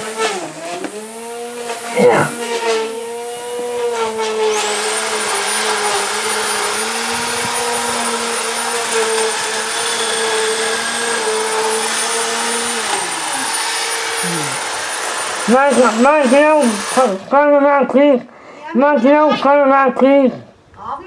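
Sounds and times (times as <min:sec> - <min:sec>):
electric grass trimmer whining: 0:00.0 - 0:17.3
trimmer line cutting grass: 0:00.0 - 0:17.6.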